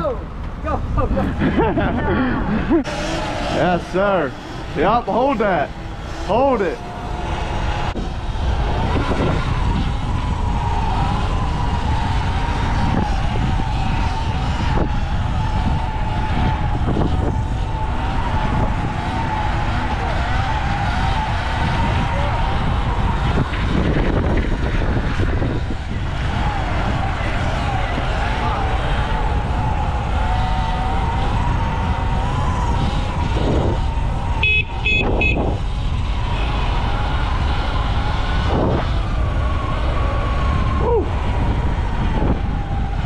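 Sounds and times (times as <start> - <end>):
wind rumble: 0.0 - 43.0.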